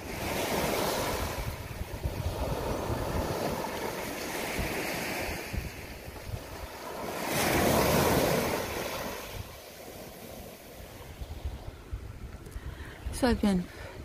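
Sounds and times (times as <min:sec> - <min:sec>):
waves breaking on sand: 0:00.0 - 0:12.4
wind on microphone: 0:00.0 - 0:14.0.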